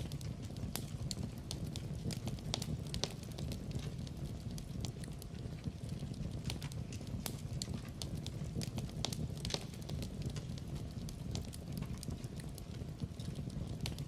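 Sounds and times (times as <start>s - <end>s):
fire crackling and popping: 0.0s - 14.0s
low rumble of burning logs: 0.0s - 14.0s.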